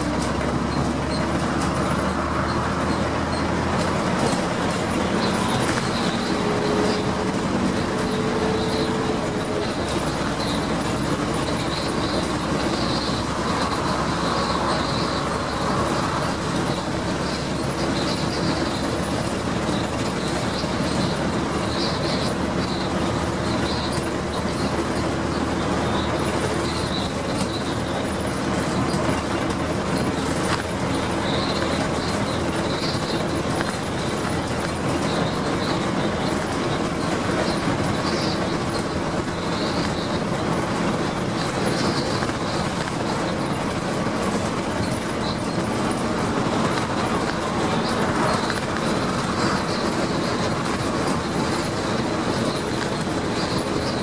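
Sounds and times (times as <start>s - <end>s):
bus engine running under load: 0.0s - 54.0s
road and body noise: 0.0s - 54.0s.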